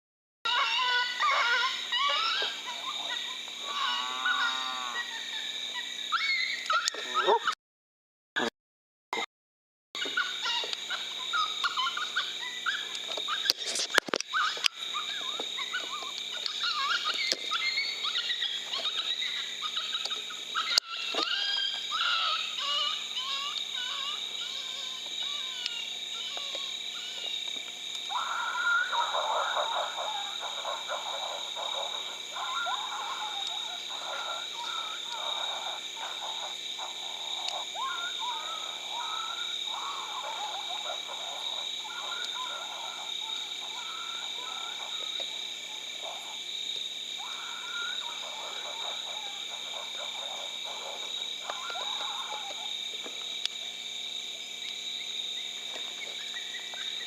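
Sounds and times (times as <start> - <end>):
coyotes yipping and howling: 0.5 - 7.6, 10.0 - 57.0
night insects chirring: 0.5 - 7.6, 10.0 - 57.0.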